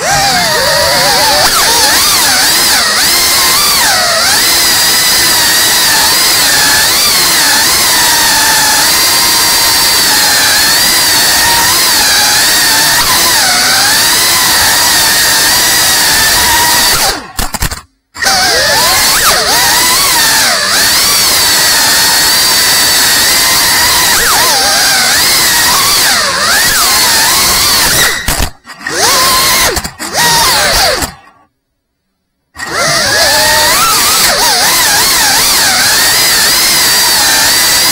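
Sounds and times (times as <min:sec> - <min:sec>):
drone motors whining: 0:00.0 - 0:31.5, 0:32.6 - 0:37.9.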